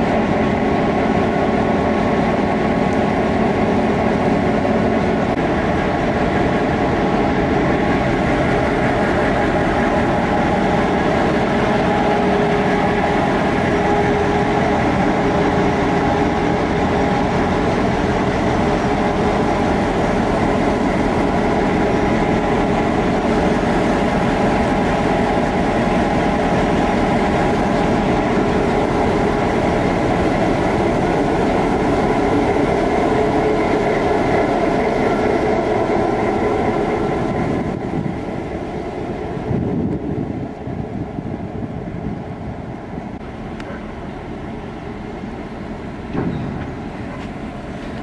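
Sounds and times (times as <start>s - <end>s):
diesel locomotive engine drone: 0.0s - 48.0s
wagons rumbling on rails: 0.0s - 48.0s.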